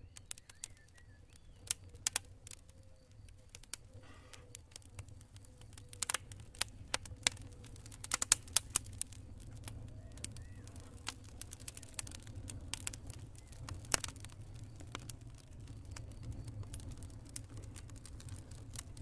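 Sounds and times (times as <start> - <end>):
low steady fire rumble: 0.0 - 19.0
wood crackling and popping: 0.0 - 19.0.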